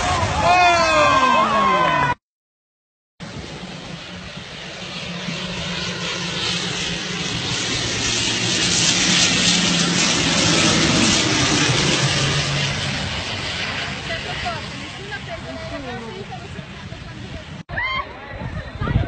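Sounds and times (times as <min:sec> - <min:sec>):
propeller airliner flying overhead: 0:00.0 - 0:02.2, 0:03.2 - 0:19.0.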